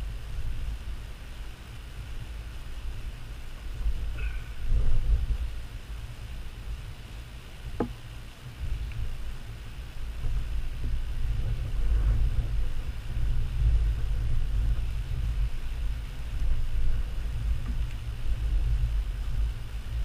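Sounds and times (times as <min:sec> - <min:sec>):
low uneven rumble: 0:00.0 - 0:20.0.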